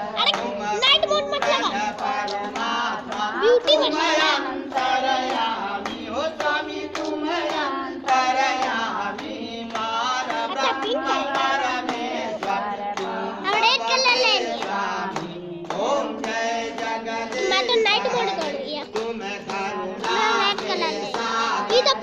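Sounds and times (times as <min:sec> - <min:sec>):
hands clapping: 0:00.0 - 0:22.0
women singing a hymn: 0:00.0 - 0:22.0.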